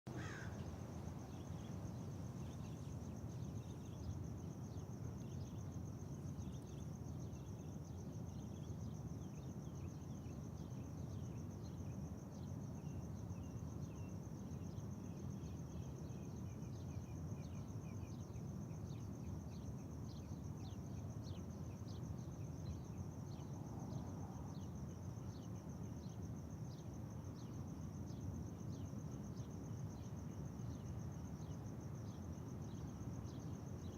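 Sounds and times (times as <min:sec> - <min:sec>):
insect trill: 0:00.1 - 0:33.9.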